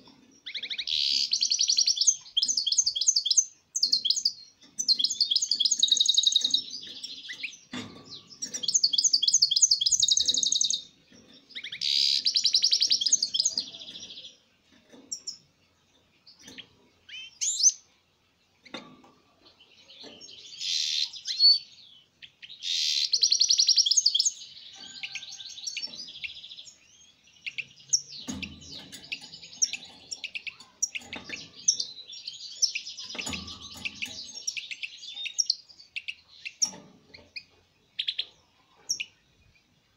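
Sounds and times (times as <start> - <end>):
goldfinch twittering song: 0.2 - 14.4, 19.7 - 39.6.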